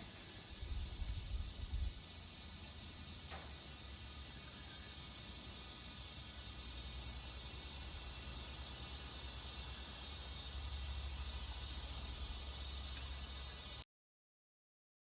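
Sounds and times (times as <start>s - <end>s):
high-pitched insect drone: 0.0s - 13.8s.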